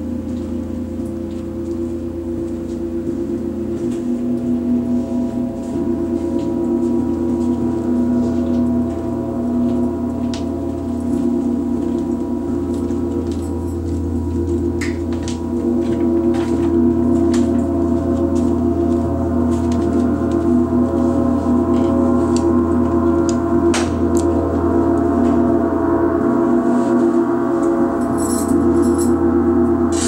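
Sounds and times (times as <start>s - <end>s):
gongs droning: 0.0s - 30.0s.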